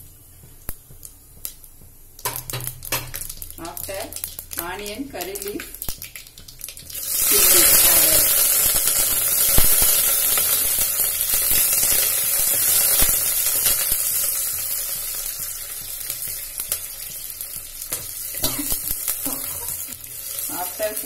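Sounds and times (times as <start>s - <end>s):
food sizzling in hot oil: 2.2s - 21.0s.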